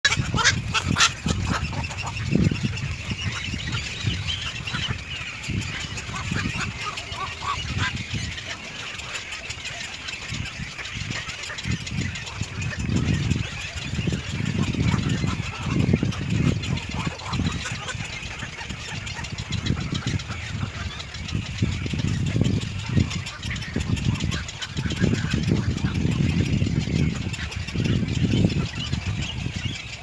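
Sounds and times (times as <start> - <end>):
bird calls: 0.0 - 30.0.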